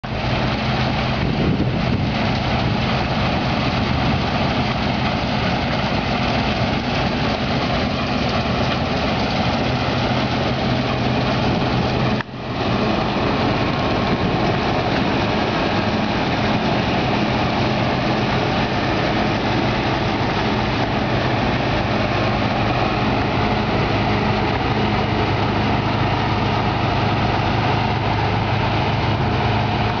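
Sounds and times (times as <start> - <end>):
combine harvester running: 0.0 - 30.0.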